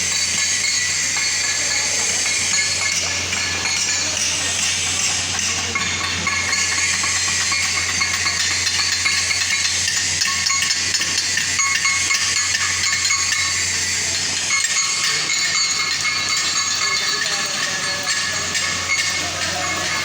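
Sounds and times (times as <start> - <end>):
arc welding crackling hiss: 0.0 - 20.0.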